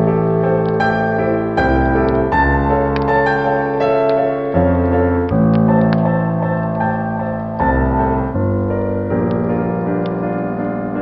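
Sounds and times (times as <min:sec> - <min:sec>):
wood fire crackling: 0:00.0 - 0:10.3
slow solo piano music: 0:00.0 - 0:11.0.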